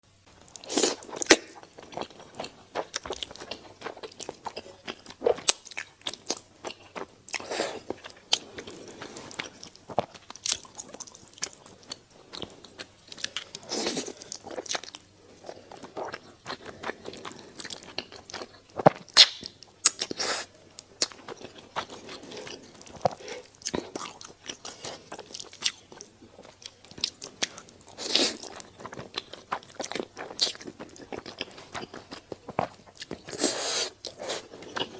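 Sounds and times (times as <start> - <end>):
person chewing and crunching food: 0.3 - 34.9.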